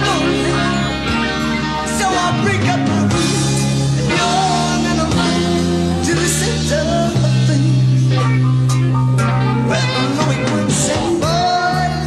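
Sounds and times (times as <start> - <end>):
bass notes: 0.0 - 12.0
guitar: 0.0 - 12.0
rock song with singing: 0.0 - 12.0.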